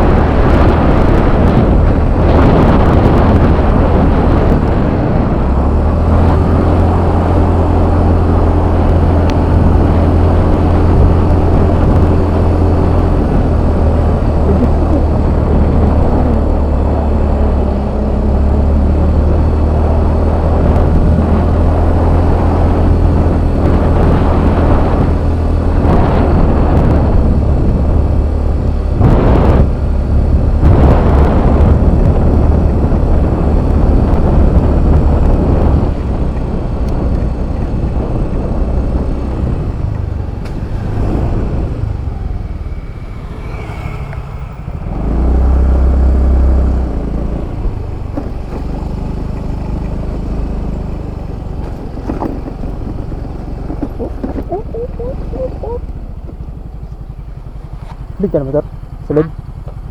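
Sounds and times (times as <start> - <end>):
wind on microphone: 0.0 - 56.9
scooter engine: 0.0 - 59.9.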